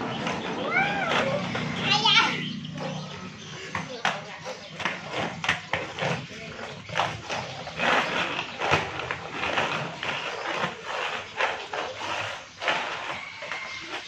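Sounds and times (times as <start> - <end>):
roller skate wheels on concrete: 0.0 - 14.0
skates clattering and knocking: 0.0 - 14.0.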